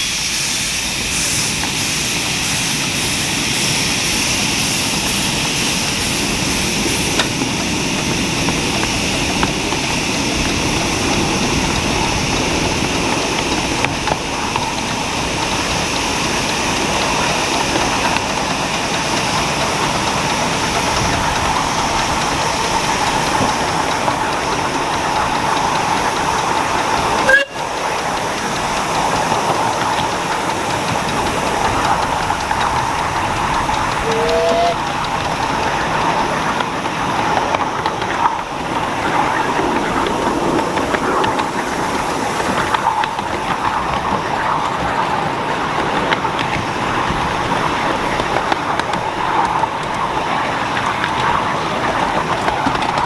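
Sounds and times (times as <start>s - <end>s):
miniature train running: 0.0s - 53.0s
steam hiss: 0.0s - 53.0s.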